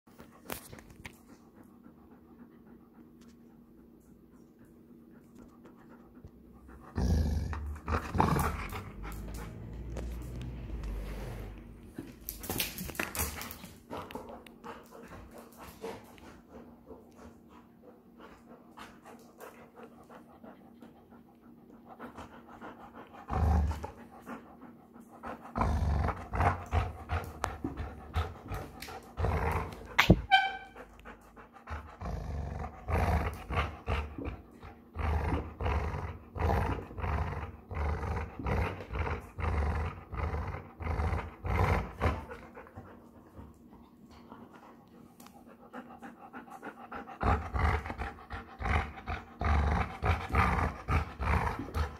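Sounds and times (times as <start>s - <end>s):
dog play-growling: 5.1s - 51.9s.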